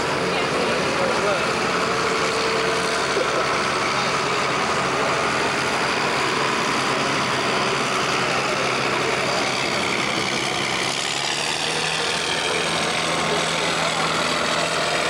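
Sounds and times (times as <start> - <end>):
diesel engine running hard: 0.0 - 15.0.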